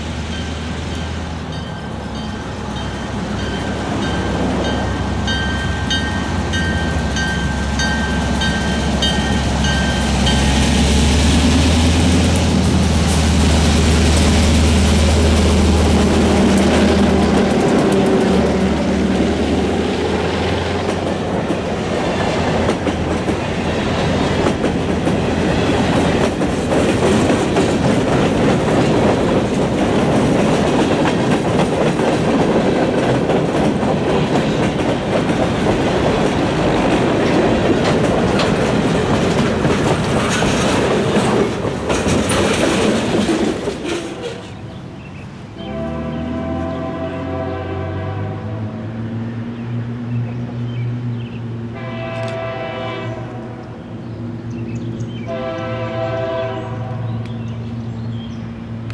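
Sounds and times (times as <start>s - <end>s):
diesel locomotive engines droning: 0.0s - 58.9s.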